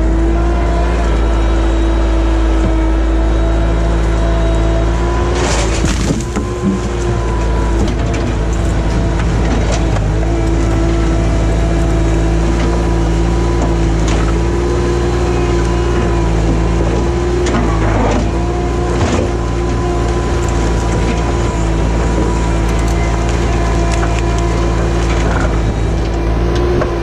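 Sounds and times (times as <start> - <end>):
skid steer engine running: 0.0 - 27.0.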